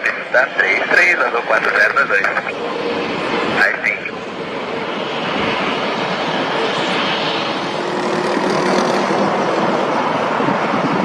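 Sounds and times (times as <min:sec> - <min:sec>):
aircraft engine rushing: 0:00.0 - 0:11.0.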